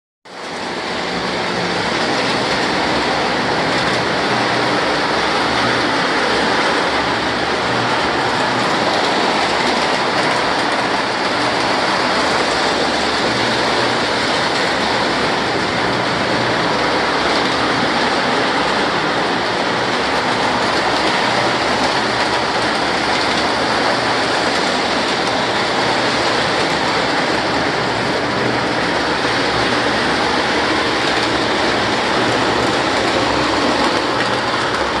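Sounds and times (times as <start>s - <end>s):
model trains whirring: 0.3s - 35.0s.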